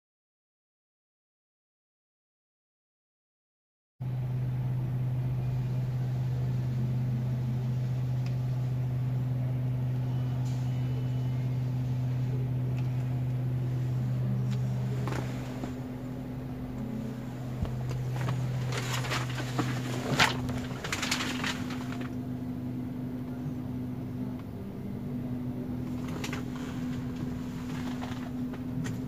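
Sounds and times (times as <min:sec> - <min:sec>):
car engine idling: 0:04.1 - 0:29.0.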